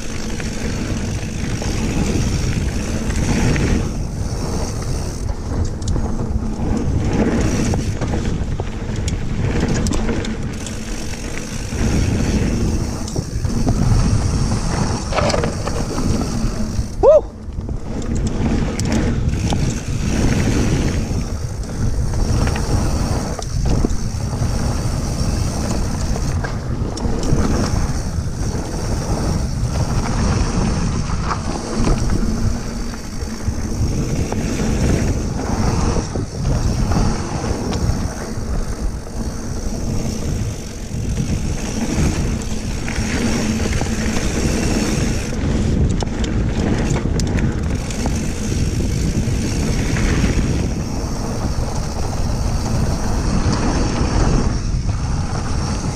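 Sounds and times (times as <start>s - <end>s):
bike knocking and rattling: 0.0s - 55.9s
tyres rolling on gravel: 0.0s - 55.9s
wind rushing over microphone: 0.0s - 55.9s.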